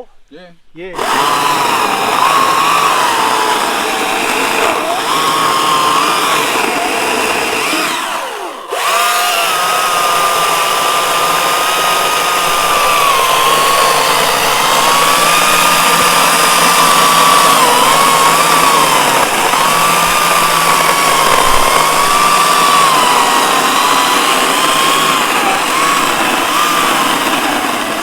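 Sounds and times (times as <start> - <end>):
battery chainsaw whining: 1.0 - 28.0.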